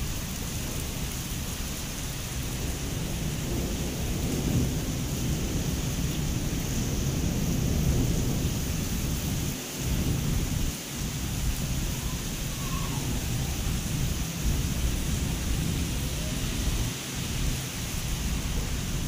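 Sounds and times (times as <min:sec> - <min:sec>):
heavy rain on concrete: 0:00.0 - 0:19.0.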